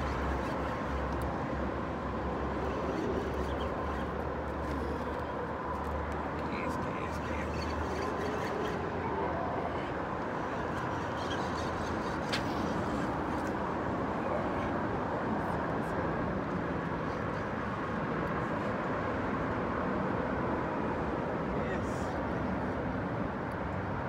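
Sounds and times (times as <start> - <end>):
traffic rumble on bridge: 0.0 - 24.0.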